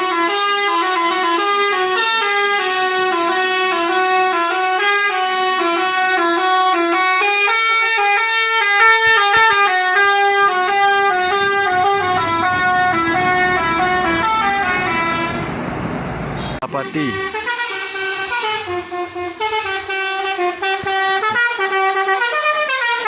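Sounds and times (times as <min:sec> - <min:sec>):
bus musical horn melody: 0:00.0 - 0:15.6, 0:16.3 - 0:23.0.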